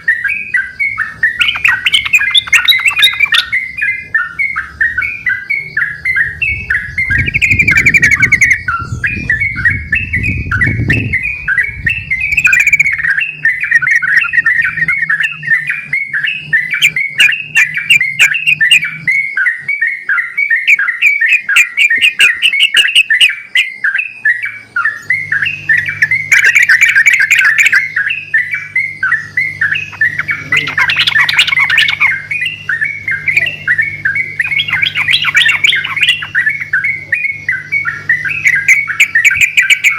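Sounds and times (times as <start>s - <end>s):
birds singing and chattering: 0.0s - 39.9s.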